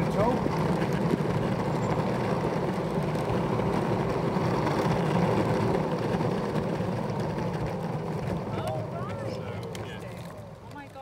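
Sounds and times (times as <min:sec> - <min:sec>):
skateboard wheels rumbling on tarmac: 0:00.0 - 0:11.0.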